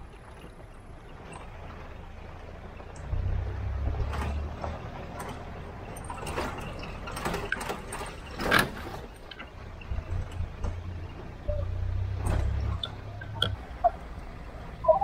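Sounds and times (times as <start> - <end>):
knocks and rattles: 0.0 - 15.0
vehicle rumbling on dirt track: 0.0 - 15.0.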